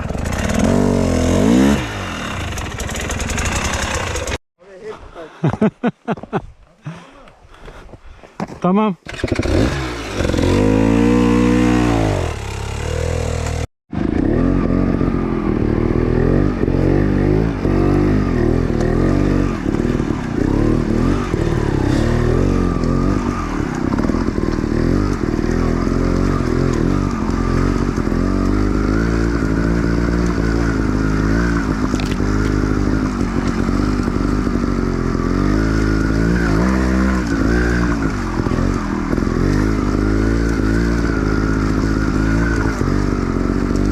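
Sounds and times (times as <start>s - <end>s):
dirt bike engine revving: 0.0s - 4.4s, 9.0s - 43.9s.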